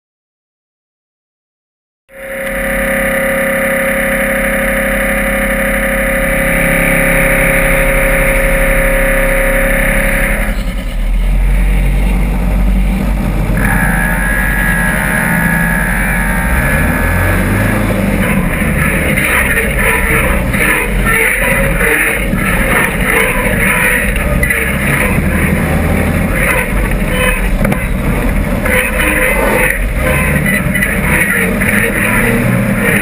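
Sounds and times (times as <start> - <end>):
buggy engine running: 2.1 - 33.0.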